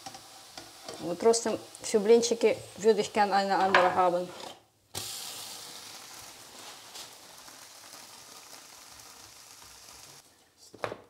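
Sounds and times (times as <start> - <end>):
batter sizzling in a pan: 0.0 - 3.6, 4.9 - 10.3.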